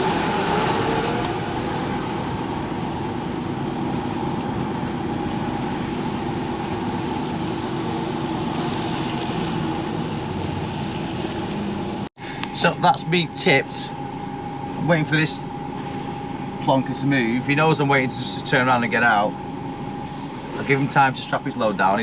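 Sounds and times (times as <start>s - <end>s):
lorry diesel engine running: 0.0s - 22.0s.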